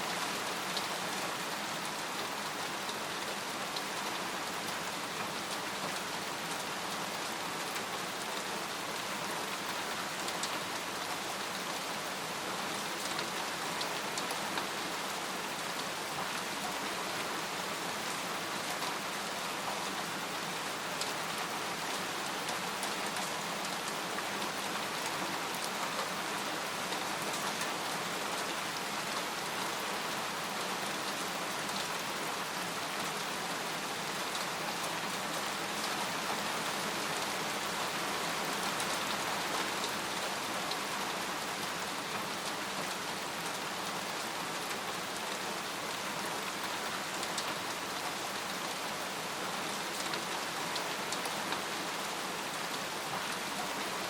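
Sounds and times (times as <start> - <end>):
rain pattering on a tent: 0.0 - 54.0.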